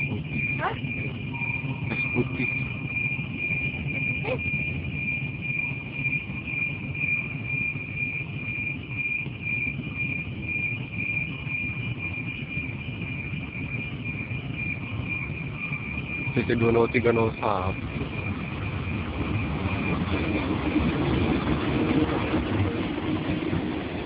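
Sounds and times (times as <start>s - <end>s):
level crossing warning siren: 0.0s - 24.0s
low rumble: 0.0s - 24.0s.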